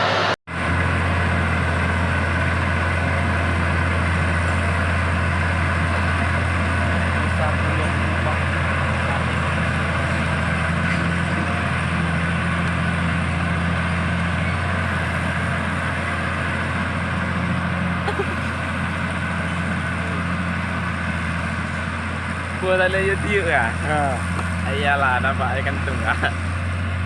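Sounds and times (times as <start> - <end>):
diesel engine humming: 0.0 - 27.0.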